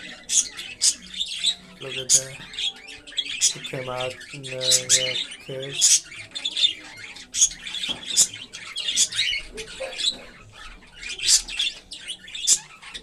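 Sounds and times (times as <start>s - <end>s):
cockatiels chirping and squawking: 0.0s - 13.0s.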